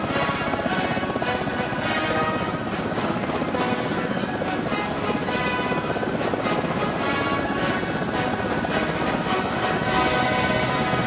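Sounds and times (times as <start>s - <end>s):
helicopter rotors beating: 0.0s - 11.0s
music playing: 0.0s - 11.0s.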